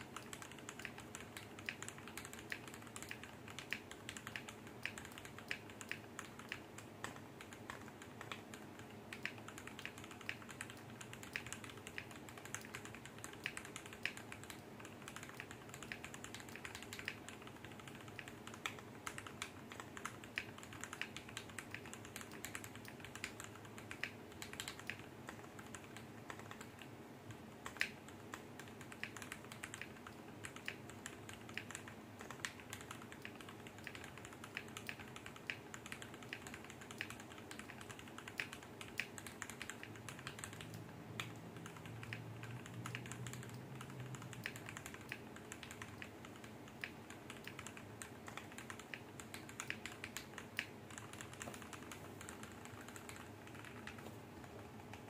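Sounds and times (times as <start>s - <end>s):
fast mechanical keyboard typing: 0.0s - 55.0s.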